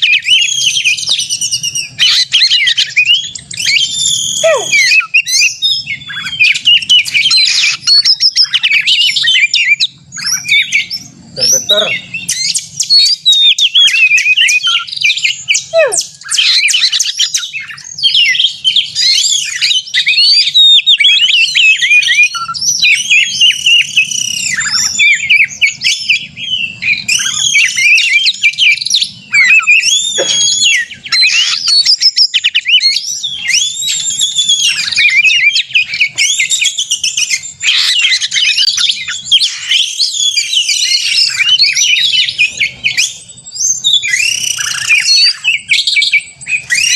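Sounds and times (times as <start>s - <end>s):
bird singing whistles and trills: 0.0s - 46.9s.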